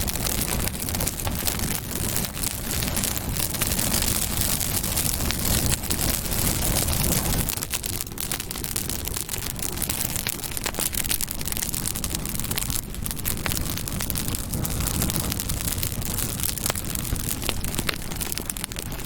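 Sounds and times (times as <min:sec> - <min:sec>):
campfire flames crackling: 0:00.0 - 0:19.0.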